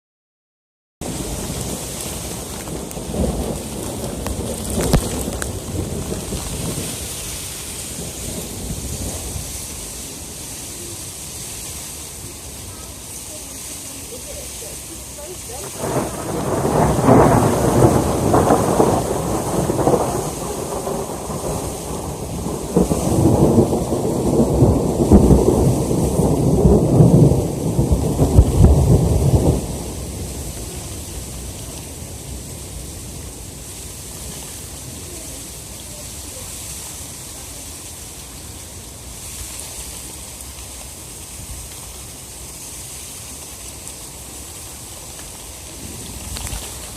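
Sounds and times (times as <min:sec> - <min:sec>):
heavy rain: 0:01.0 - 0:46.9
thunder rumbling: 0:01.0 - 0:46.9.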